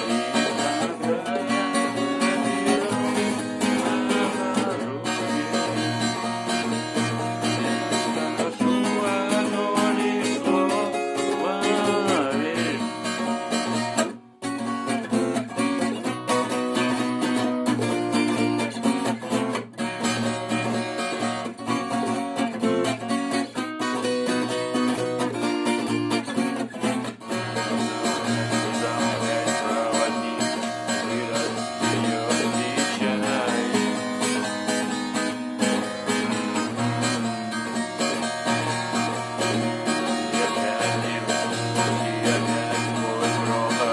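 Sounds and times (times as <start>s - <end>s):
strummed acoustic guitar music: 0.0s - 43.9s.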